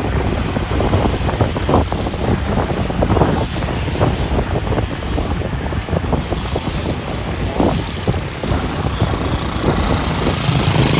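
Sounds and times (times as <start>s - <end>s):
street traffic: 0.0s - 10.9s
wind buffeting microphone: 0.0s - 10.9s.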